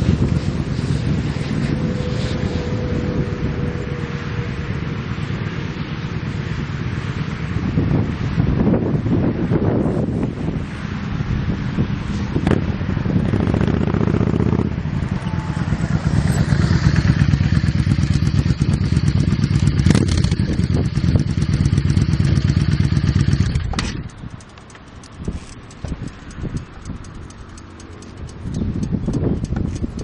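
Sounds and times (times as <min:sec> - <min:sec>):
exhaust crack: 0:00.0 - 0:30.0
motorcycle engine running: 0:00.0 - 0:30.0.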